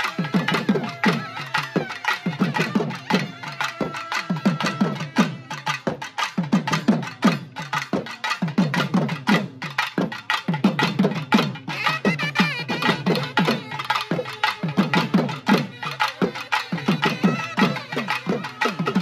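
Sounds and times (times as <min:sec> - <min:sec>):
drums beaten in fast rhythm: 0:00.0 - 0:19.0.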